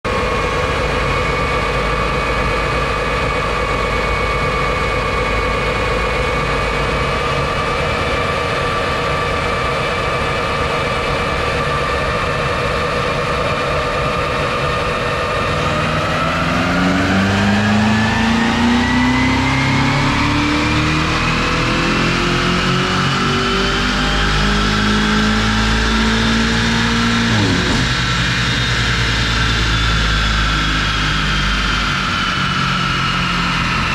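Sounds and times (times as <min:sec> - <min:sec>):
car engine whining on dyno: 0:00.1 - 0:33.9.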